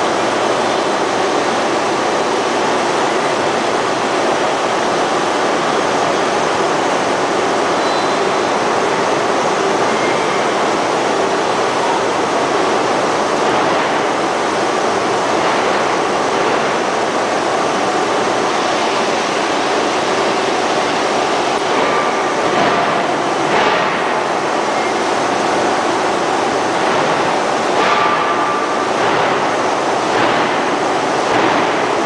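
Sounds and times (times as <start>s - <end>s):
ring-rolling mill rolling metal: 0.0s - 32.0s.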